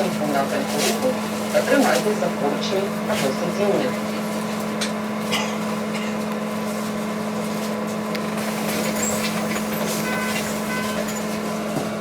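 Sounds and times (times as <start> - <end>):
trolleybus electric hum: 0.0 - 12.0.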